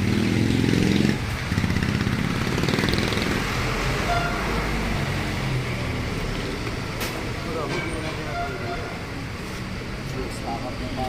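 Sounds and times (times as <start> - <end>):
background traffic noise: 0.0 - 11.0.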